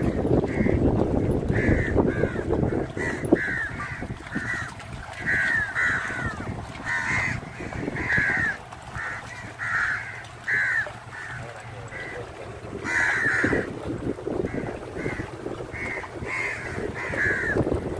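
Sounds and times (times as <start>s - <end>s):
crows cawing: 1.5s - 13.8s, 14.5s - 17.7s.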